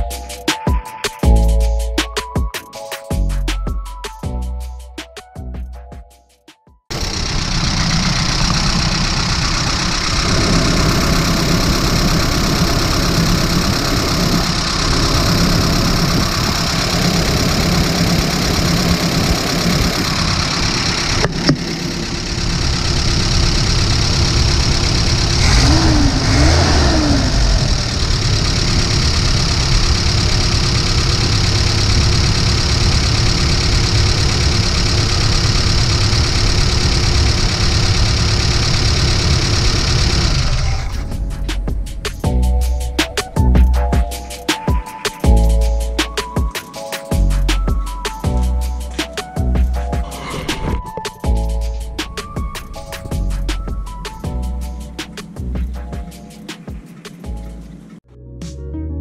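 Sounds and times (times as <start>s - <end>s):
car engine idling: 6.9s - 46.4s, 47.2s - 58.0s.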